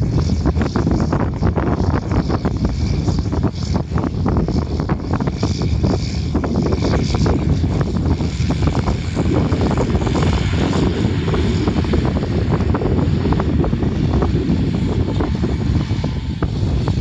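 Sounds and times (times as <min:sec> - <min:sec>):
distant tractor drone: 0:00.0 - 0:17.0
wind buffeting microphone: 0:00.0 - 0:17.0.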